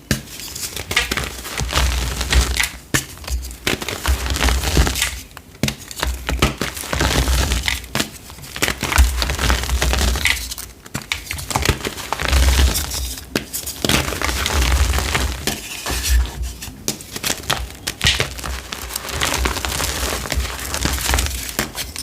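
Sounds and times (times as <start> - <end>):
chalk crunching: 0.2 - 22.0.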